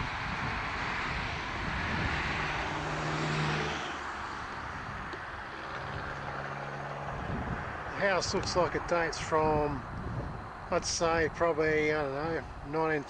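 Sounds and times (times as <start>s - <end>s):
distant engine droning: 0.0s - 13.0s.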